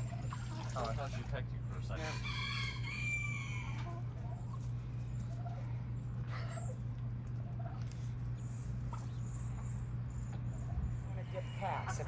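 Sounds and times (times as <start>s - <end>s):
chickens clucking: 0.0s - 12.0s
steady low hum: 0.0s - 12.0s.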